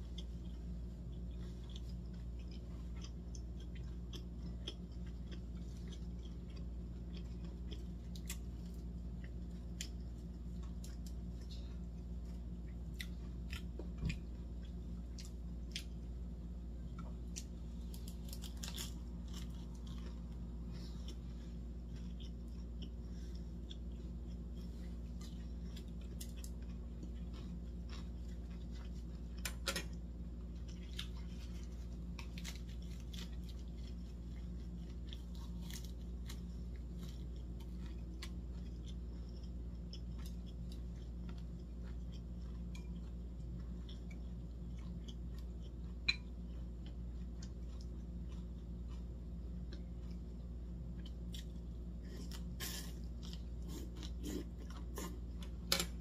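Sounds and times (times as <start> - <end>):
crisp chewing crunches: 0.0 - 56.0
steady low hum: 0.0 - 56.0.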